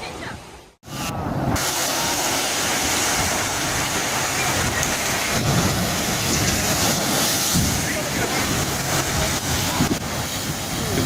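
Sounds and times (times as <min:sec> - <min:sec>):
waves breaking: 0:00.0 - 0:11.0
wind rushing: 0:00.8 - 0:11.0.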